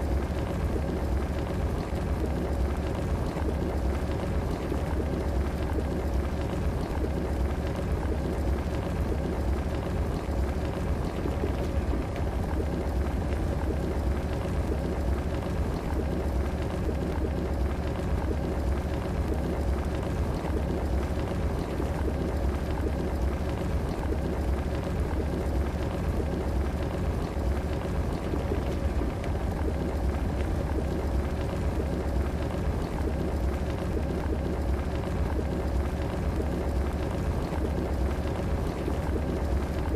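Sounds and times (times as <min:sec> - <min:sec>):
kettle water bubbling: 0:00.0 - 0:39.9.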